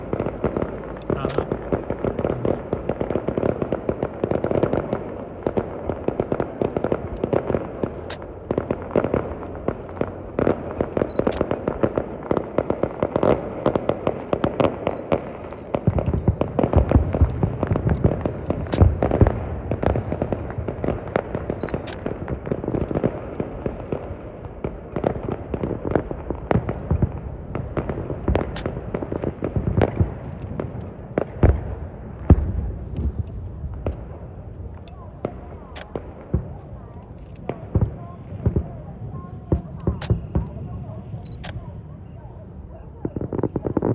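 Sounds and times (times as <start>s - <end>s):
deep fireworks booms: 0.0s - 43.9s
fireworks popping and crackling: 0.0s - 43.9s.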